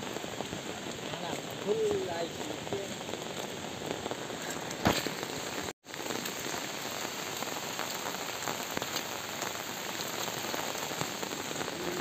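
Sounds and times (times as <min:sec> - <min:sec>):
rain pattering on umbrellas: 0:00.0 - 0:12.0.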